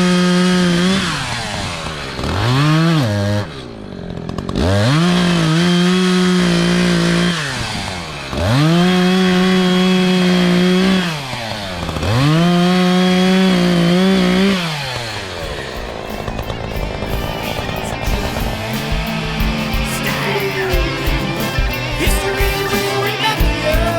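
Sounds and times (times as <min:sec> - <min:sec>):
chainsaw revving: 0:00.0 - 0:23.9.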